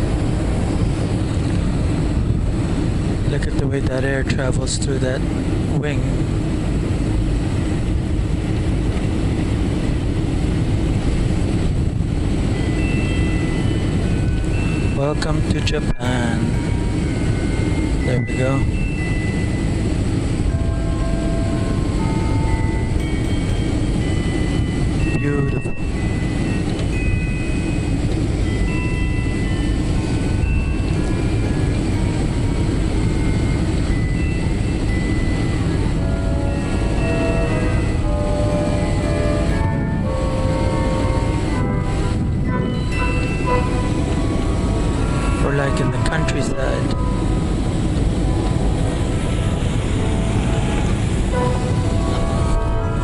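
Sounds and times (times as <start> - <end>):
airliner cabin engine rush: 0.0 - 53.0.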